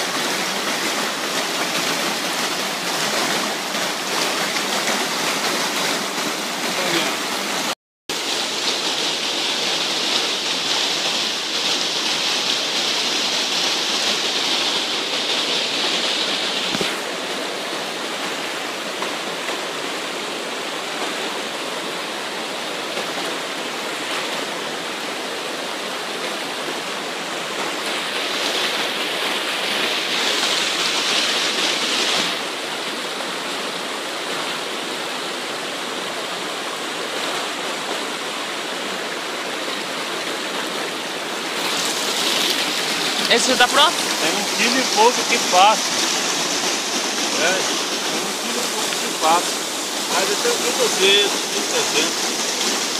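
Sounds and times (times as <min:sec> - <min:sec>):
creek water rushing over rock: 0:00.0 - 0:52.9.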